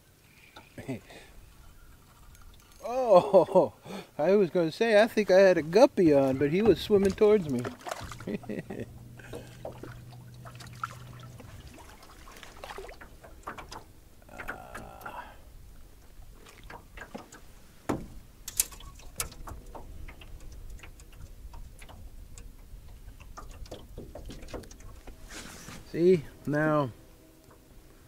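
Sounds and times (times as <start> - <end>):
light water sounds: 0.0 - 28.0
low steady hum: 0.0 - 28.0
clicks and knocks in a boat: 0.3 - 2.9, 5.3 - 28.0.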